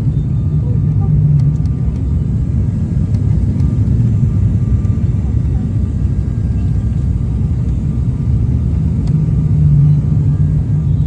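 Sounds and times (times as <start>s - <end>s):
propeller aircraft cabin drone: 0.0s - 11.0s.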